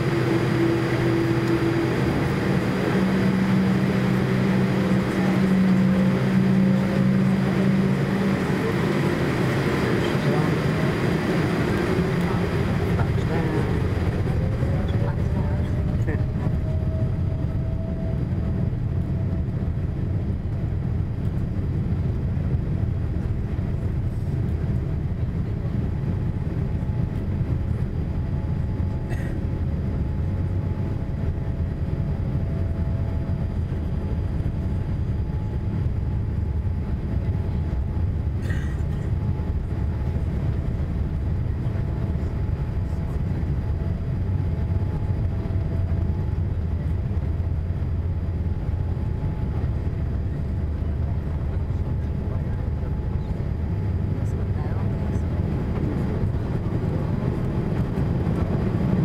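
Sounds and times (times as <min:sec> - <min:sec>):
faint engine whine: 0:00.0 - 0:59.0
low cabin rumble: 0:00.0 - 0:59.0.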